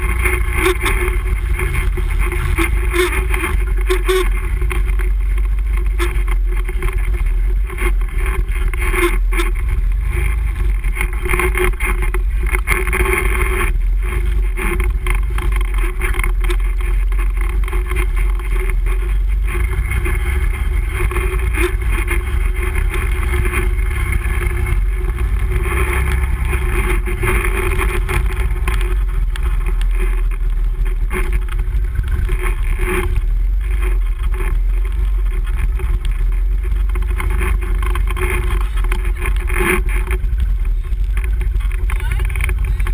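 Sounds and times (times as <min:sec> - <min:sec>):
atv engine running: 0:00.0 - 0:42.9
knocks and rattles over bumps: 0:00.0 - 0:42.9.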